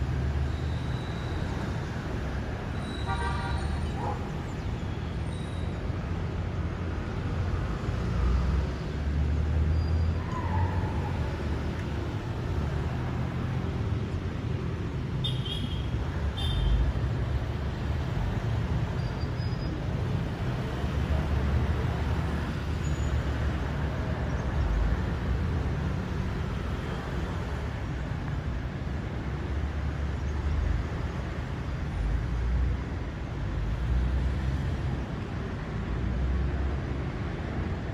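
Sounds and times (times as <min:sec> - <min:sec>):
city traffic rumble: 0:00.0 - 0:37.9.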